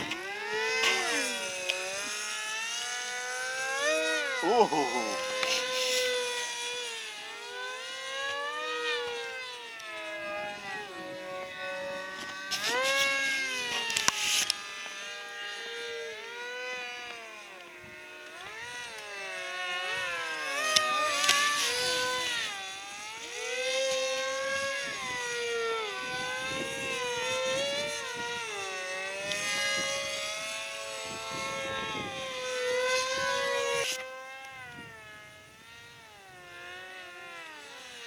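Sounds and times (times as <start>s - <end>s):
model airplane motors whining: 0.0s - 38.0s.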